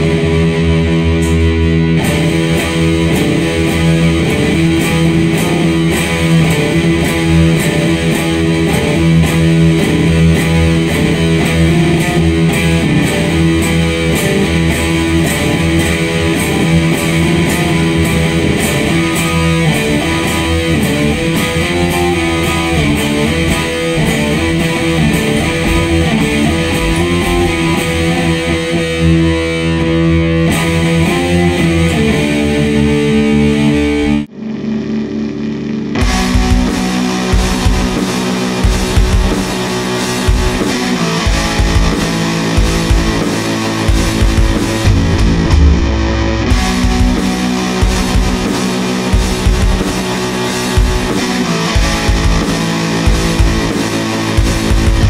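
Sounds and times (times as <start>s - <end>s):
sludge metal music: 0.0s - 55.0s.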